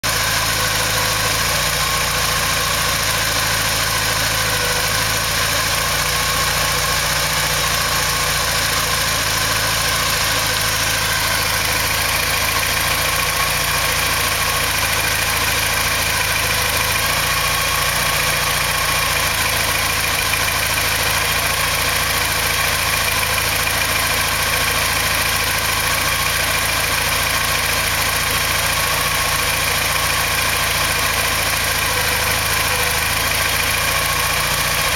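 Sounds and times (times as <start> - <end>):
four-cylinder engine idling: 0.0 - 34.9.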